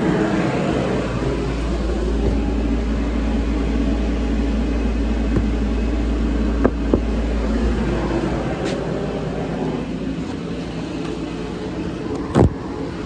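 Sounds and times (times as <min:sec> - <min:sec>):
low machine drone: 0:00.0 - 0:13.0.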